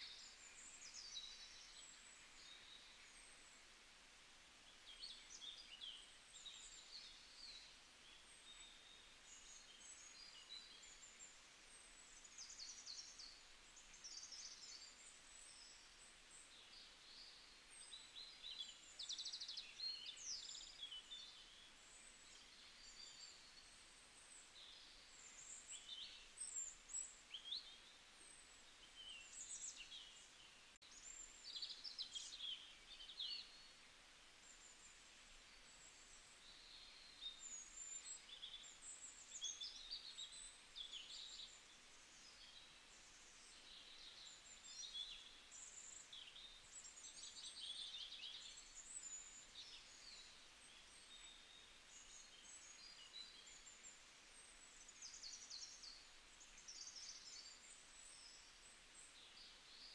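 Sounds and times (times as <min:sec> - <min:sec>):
faint birdsong chirps and trills: 0:00.0 - 0:59.9
soft steady hiss: 0:00.0 - 0:59.9.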